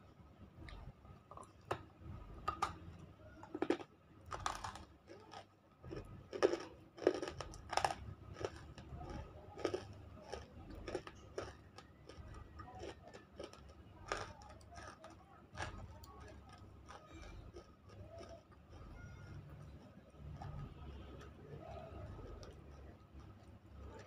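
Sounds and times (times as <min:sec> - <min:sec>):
crunchy biting and chewing: 0:03.4 - 0:24.0.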